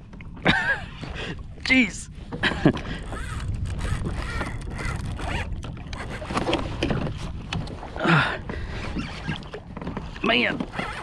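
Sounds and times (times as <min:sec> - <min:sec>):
water noise: 0:00.0 - 0:11.0
wind rumble on microphone: 0:00.0 - 0:11.0.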